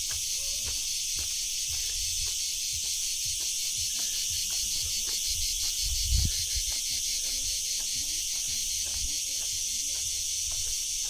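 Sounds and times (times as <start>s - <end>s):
insects chorus: 0.0s - 11.0s
soft footsteps: 0.0s - 11.0s.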